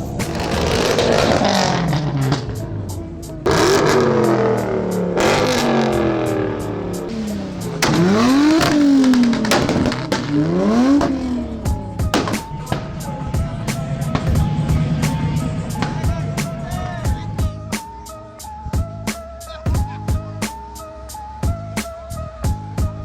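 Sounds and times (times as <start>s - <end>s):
car engine revving: 0.0s - 18.5s
music playing: 0.0s - 23.0s.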